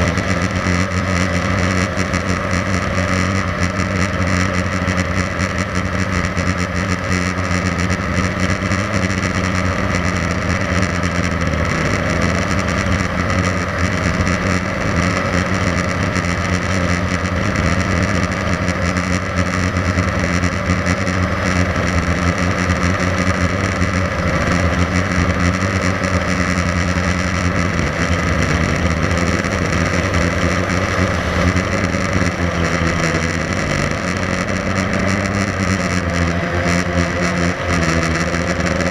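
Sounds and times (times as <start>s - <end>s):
quadcopter motors buzzing: 0.0s - 38.9s.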